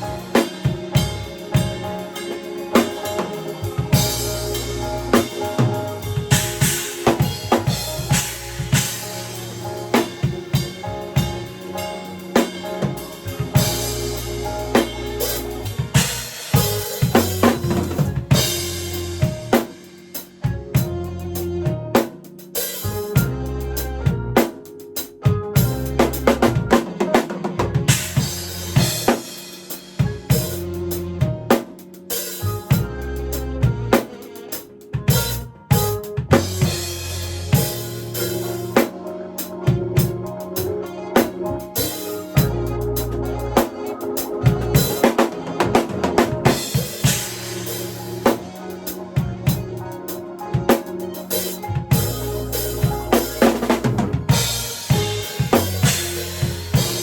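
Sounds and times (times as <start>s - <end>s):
backing track bass and keys: 0.0s - 57.0s
jazzy drum kit groove: 0.0s - 57.0s.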